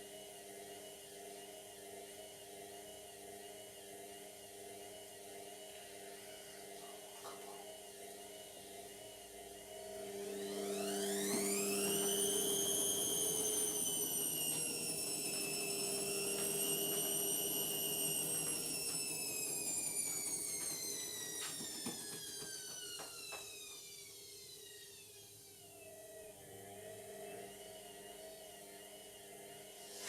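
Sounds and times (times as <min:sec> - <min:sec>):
washing machine motor whining: 0:00.0 - 0:30.0.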